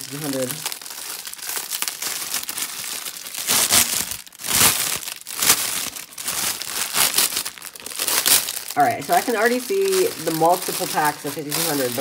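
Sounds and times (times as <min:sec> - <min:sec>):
plastic film and canvas crinkling: 0:00.0 - 0:12.0.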